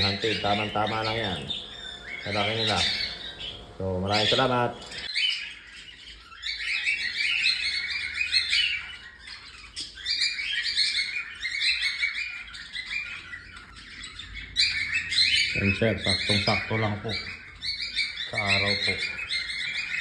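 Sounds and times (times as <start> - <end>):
cockatiels chirping: 0.0 - 20.0.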